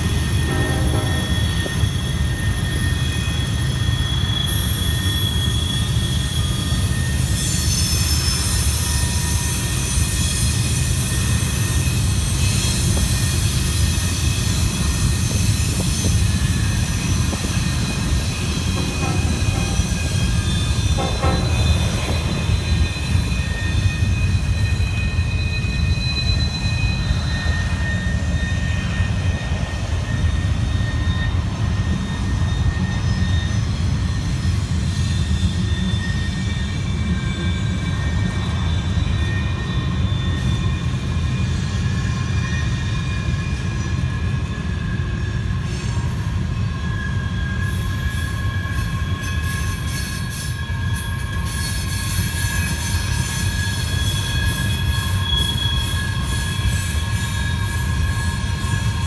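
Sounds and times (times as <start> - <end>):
train wheels rumbling: 0.0 - 59.0
wheel flange squeals: 0.0 - 59.0.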